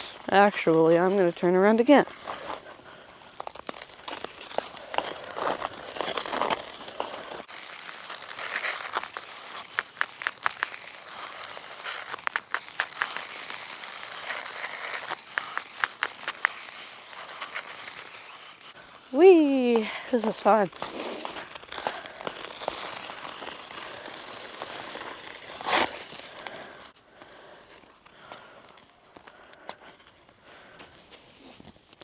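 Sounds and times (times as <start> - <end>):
ice skates scraping on ice: 0.0 - 19.2, 20.0 - 32.0.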